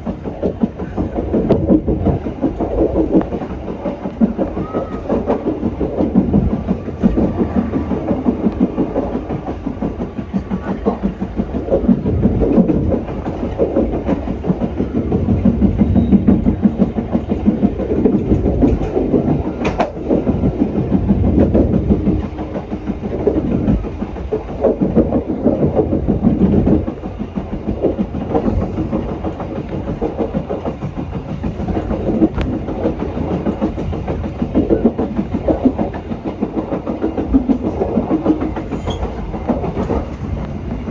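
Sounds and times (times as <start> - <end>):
train wheels rumbling and clattering: 0.0 - 40.9.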